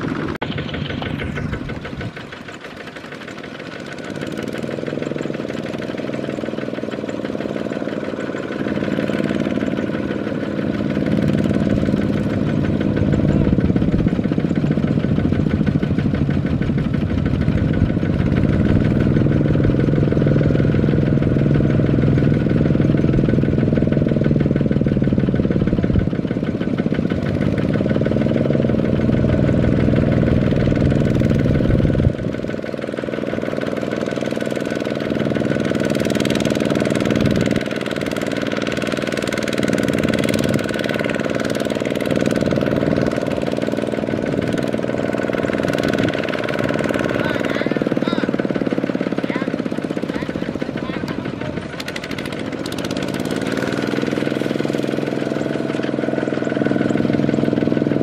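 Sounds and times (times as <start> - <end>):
diesel tiller engine under load: 0.0 - 58.0.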